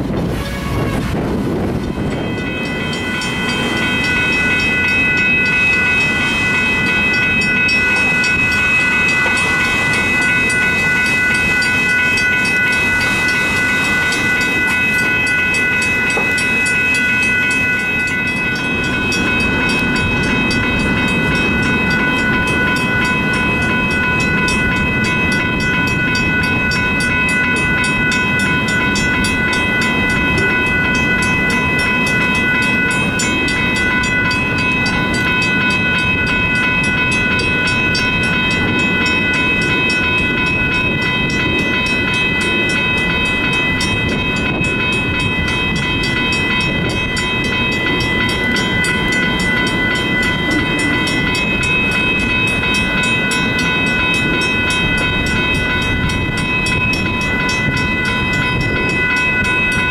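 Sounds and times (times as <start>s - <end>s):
crossing bell ringing: 0.0s - 59.9s
train wheels clacking on rails: 0.0s - 59.9s.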